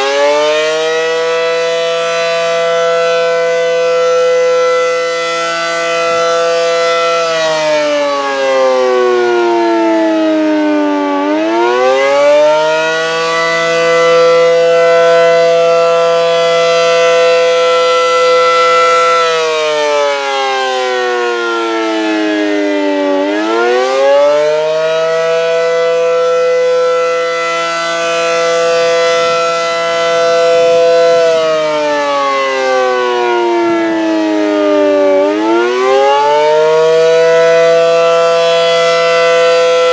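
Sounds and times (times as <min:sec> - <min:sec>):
warning siren rising and falling: 0:00.0 - 0:39.9.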